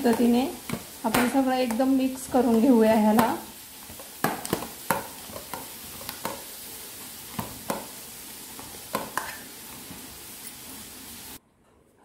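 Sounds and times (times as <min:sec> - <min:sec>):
steady hiss: 0:00.0 - 0:11.4.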